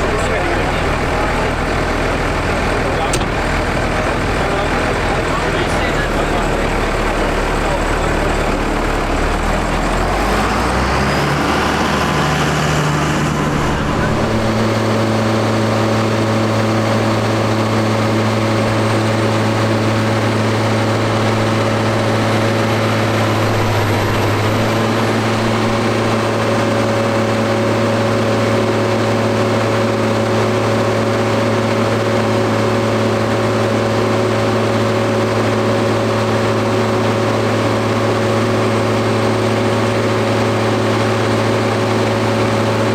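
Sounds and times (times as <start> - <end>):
tractor diesel engine drone: 0.0 - 42.9.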